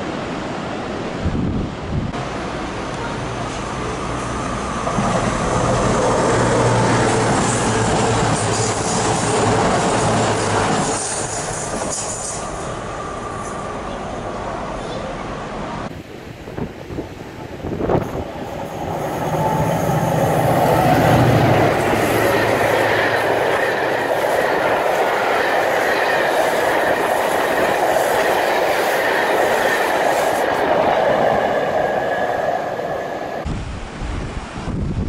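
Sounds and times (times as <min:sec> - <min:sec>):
train wheels rushing on rails: 0:02.1 - 0:15.9, 0:16.6 - 0:33.5
locomotive engine drone: 0:02.2 - 0:15.9, 0:17.8 - 0:33.5.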